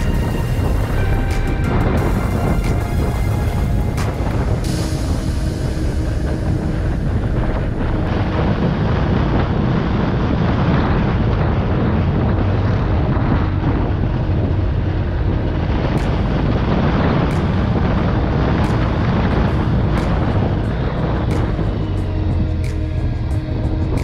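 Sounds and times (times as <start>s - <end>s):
motorcycle engine and road noise: 0.0s - 24.0s
wind buffeting microphone: 0.0s - 24.0s.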